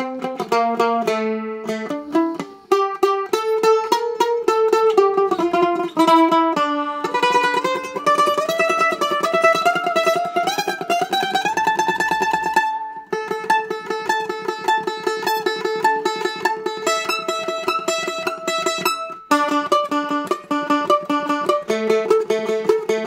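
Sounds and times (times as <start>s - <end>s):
mandolin picked notes: 0.0s - 23.0s
mandolin tremolo melody: 0.0s - 23.0s.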